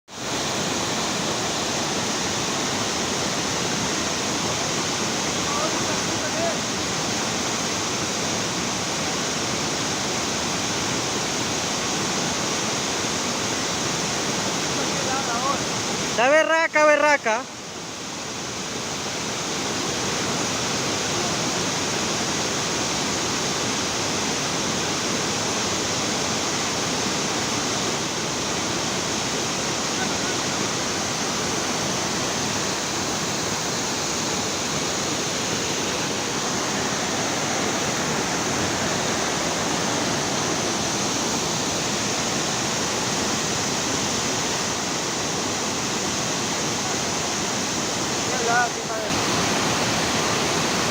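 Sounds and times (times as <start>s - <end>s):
rushing water: 0.1s - 50.9s.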